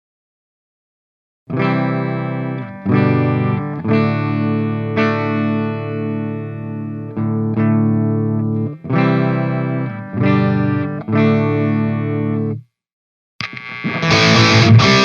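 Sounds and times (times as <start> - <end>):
distorted electric guitar chords: 1.5 - 12.6, 13.4 - 15.0.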